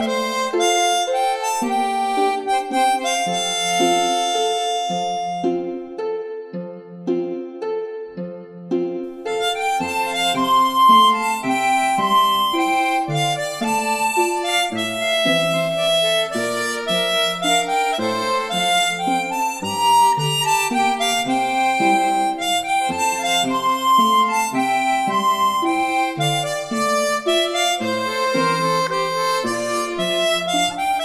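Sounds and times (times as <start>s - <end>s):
harmonica melody: 0.0s - 7.5s, 8.7s - 31.0s.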